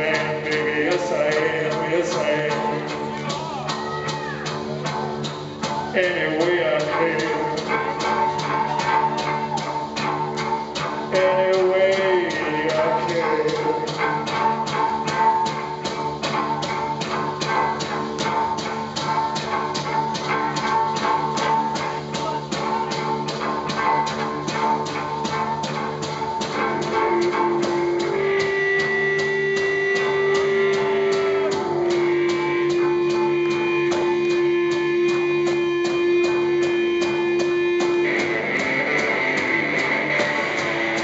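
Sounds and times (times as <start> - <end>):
drum kit beat: 0.0 - 41.0
electric guitar: 0.0 - 41.0
long held notes: 5.6 - 41.0.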